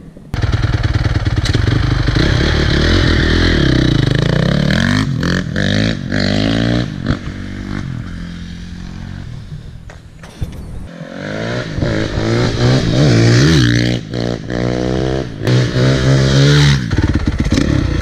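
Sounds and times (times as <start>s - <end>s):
motorcycle engine revving: 0.3s - 18.0s.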